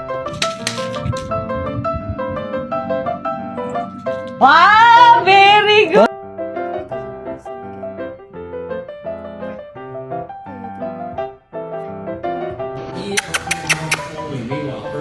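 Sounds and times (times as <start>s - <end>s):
piano melody: 0.0s - 12.8s.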